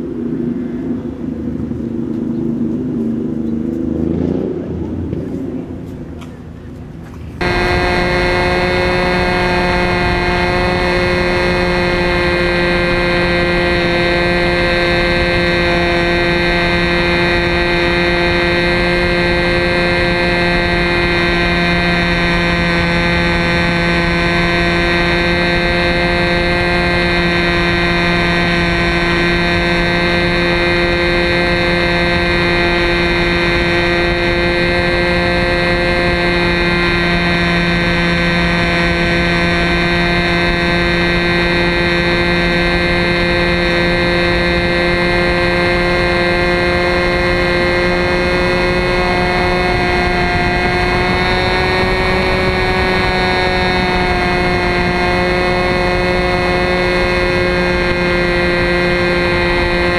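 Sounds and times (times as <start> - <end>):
model plane engine droning: 0.0 - 59.9.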